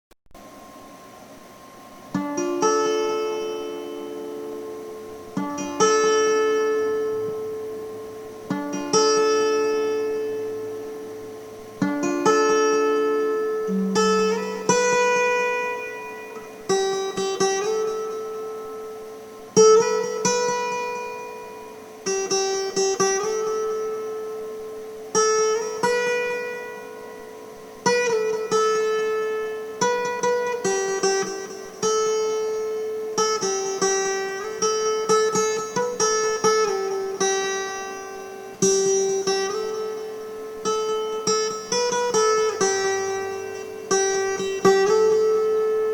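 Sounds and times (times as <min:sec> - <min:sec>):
clean guitar picking chords: 0:01.8 - 0:45.9.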